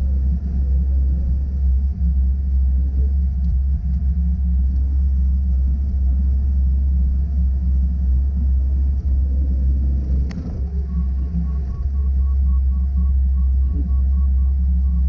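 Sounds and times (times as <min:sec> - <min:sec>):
diesel engine low rumble: 0:00.0 - 0:15.0.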